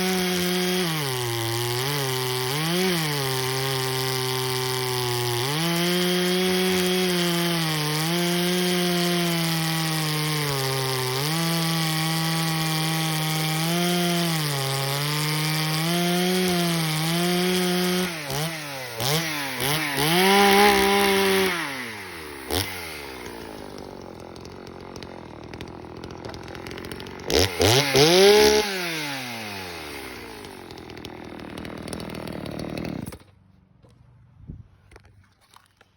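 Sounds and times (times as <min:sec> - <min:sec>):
chainsaw cutting wood: 0:00.0 - 0:33.5.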